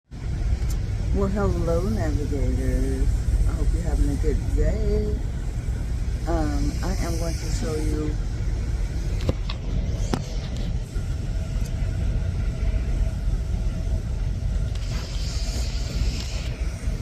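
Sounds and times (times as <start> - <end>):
truck engine rumbling: 0.1 - 17.0.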